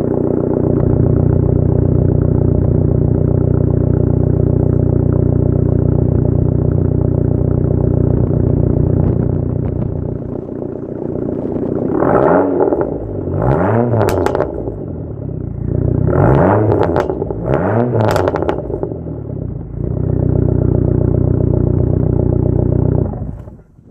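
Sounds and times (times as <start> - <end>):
car engine idling and revving: 0.0 - 23.9
exhaust cracks: 0.0 - 23.9.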